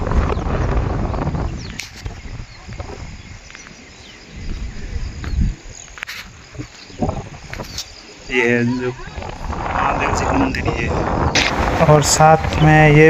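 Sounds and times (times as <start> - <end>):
wind rumbling on microphone: 0.0 - 13.0
faint insect chirping: 0.1 - 13.0.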